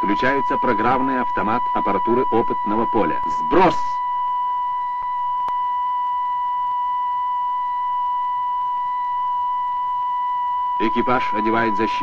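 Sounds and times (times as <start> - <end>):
high electronic tone: 0.0 - 12.0.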